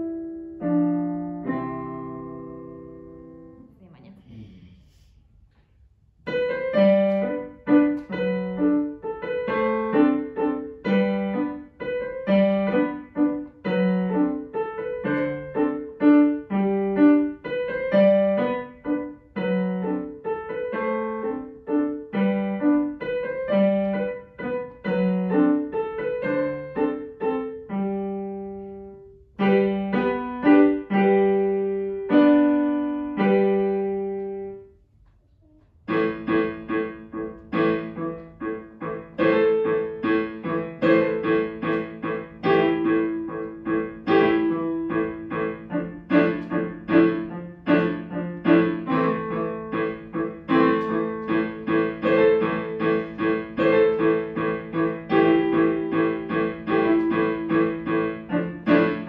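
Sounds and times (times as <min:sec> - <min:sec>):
digital piano piece: 0:00.0 - 0:04.1, 0:06.2 - 0:35.0, 0:35.7 - 0:59.0.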